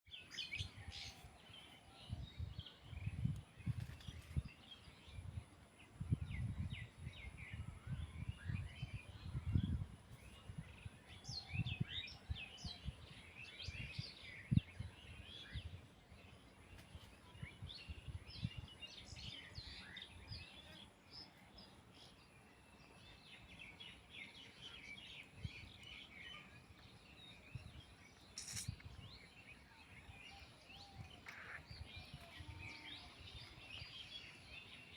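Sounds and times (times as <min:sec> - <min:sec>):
small birds chirping: 0:06.4 - 0:34.9.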